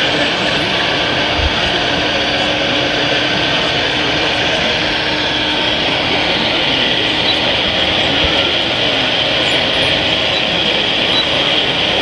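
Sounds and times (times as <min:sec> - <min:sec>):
faint steady hum: 0:00.0 - 0:12.0
model truck motors running: 0:00.0 - 0:12.0.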